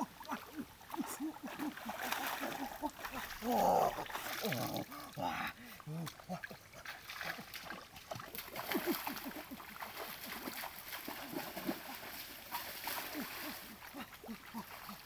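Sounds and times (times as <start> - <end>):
feet splashing through water: 0.0 - 15.0.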